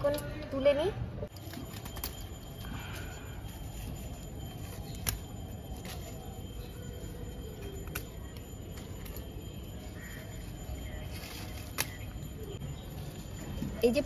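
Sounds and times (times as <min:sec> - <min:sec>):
low outdoor background: 0:00.0 - 0:14.0.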